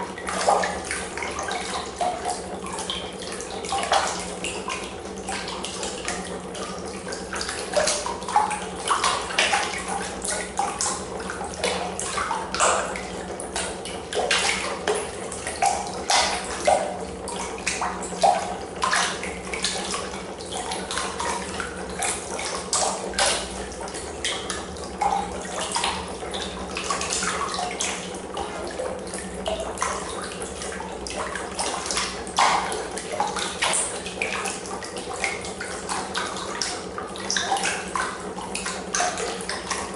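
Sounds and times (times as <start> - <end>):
steady low hum: 0.0 - 39.9
water splashing in a trough: 0.0 - 39.9.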